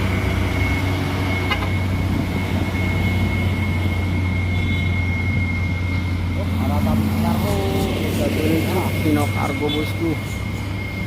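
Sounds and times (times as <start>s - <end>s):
heavy truck engine droning: 0.0s - 11.0s
thin high whine: 0.0s - 11.0s.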